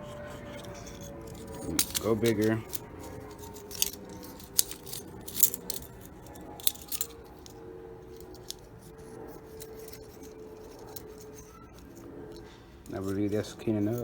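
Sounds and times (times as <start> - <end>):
faint steady hum: 0.0 - 14.0
metal rods clicking: 0.0 - 14.0.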